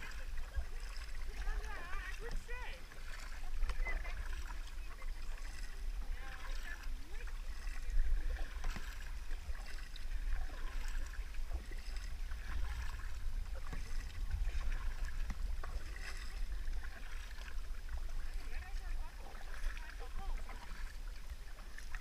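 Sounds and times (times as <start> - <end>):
paddle splashing in water: 0.0 - 22.0
wind rumbling on microphone: 0.0 - 22.0.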